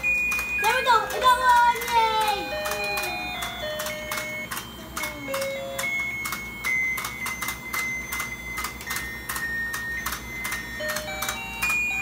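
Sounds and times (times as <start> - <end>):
toy mechanism clicking: 0.0 - 12.0.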